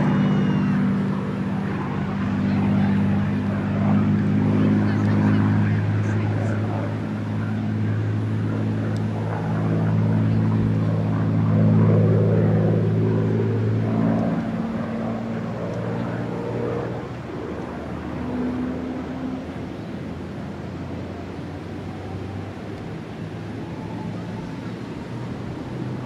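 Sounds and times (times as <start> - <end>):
propeller plane flying past: 0.0 - 26.0.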